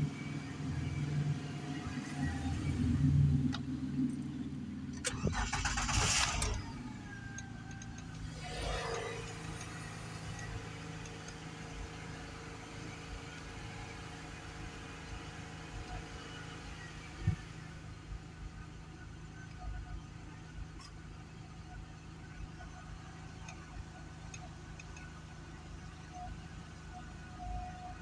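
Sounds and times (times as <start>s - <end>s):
car engine cranking and idling: 0.0s - 28.0s.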